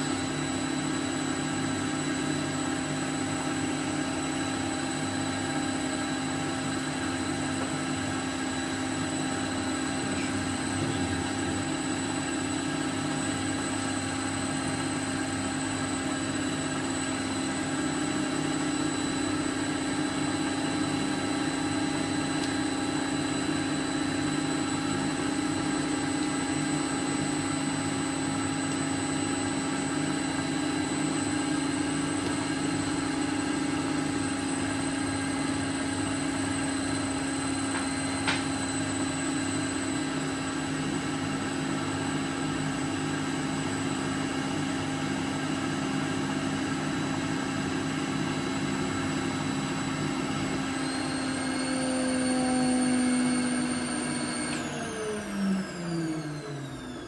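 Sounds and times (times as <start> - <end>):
motor humming with high whine: 0.0 - 57.0.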